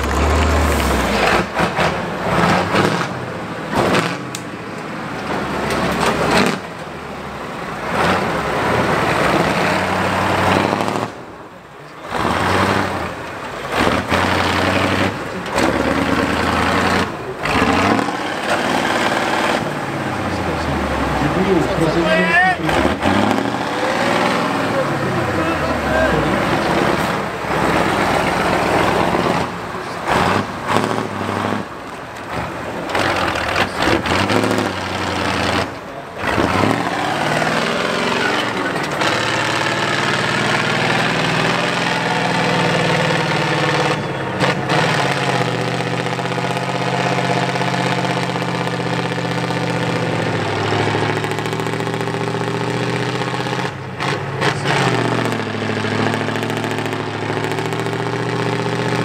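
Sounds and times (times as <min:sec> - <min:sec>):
heavy truck engine under load: 0:00.0 - 0:59.0.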